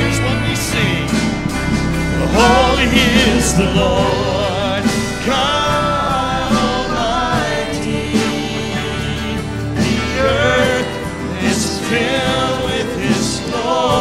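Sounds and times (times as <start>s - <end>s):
people singing: 0.0s - 14.0s
worship band playing: 0.0s - 14.0s.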